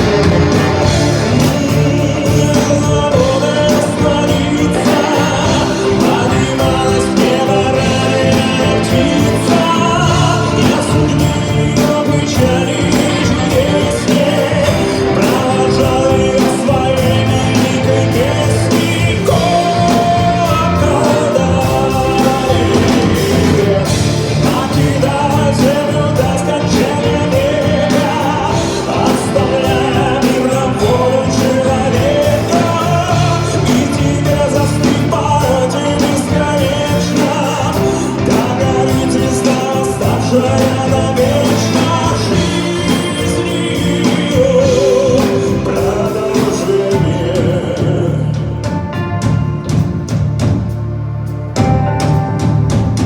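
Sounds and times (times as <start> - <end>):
man singing with vibrato: 0.0 - 49.8
band playing: 0.0 - 53.0.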